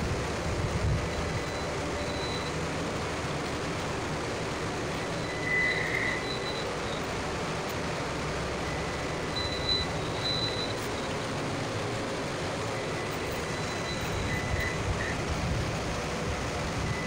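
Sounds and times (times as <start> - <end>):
equipment hum and rushing: 0.0 - 17.0.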